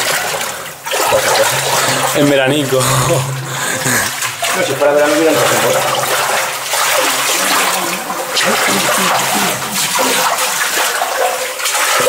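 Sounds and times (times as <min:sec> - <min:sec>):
rubber boots wading through water: 0:00.0 - 0:12.0.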